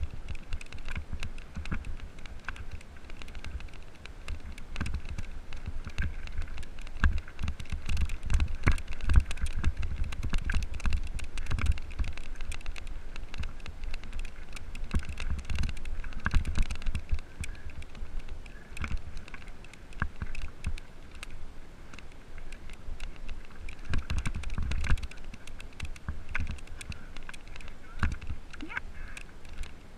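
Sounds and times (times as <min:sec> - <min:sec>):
bike rattling and clicking: 0:00.0 - 0:29.9
wind rumble on microphone: 0:00.0 - 0:29.9.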